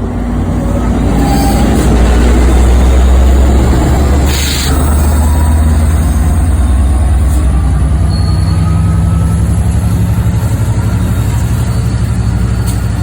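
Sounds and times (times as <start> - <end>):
diesel locomotive engine throbbing: 0.0 - 13.0.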